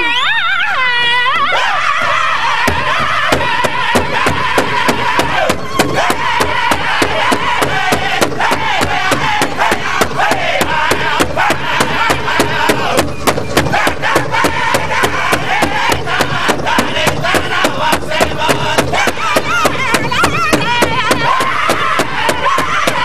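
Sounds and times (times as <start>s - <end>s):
group singing high-pitched: 0.0s - 23.0s
big drum steady beat: 2.7s - 23.0s.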